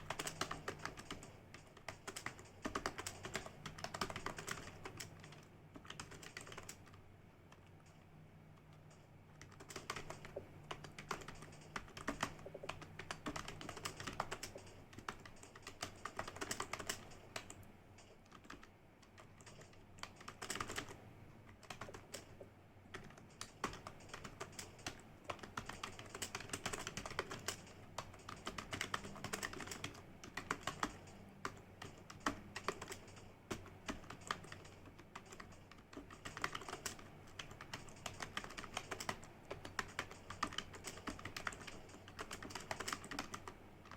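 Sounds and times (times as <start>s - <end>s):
faint low hum: 0.0s - 43.9s
fast keyboard typing: 0.0s - 43.9s.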